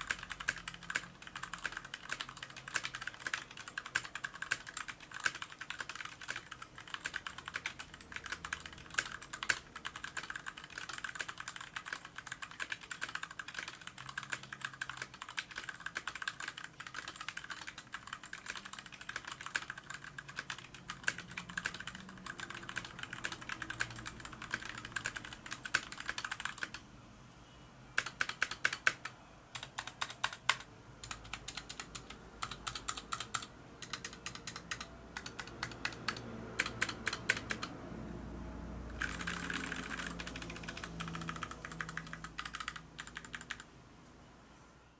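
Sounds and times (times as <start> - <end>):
mechanical keyboard typing: 0.0 - 26.8, 28.0 - 37.8, 38.9 - 43.7.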